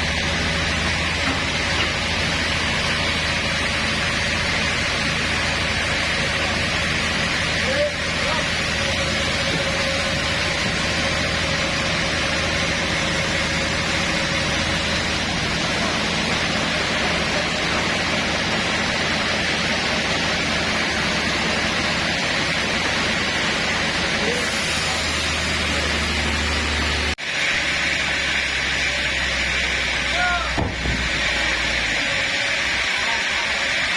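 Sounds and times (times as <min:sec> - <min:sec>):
sawmill machinery running: 0:00.0 - 0:33.9.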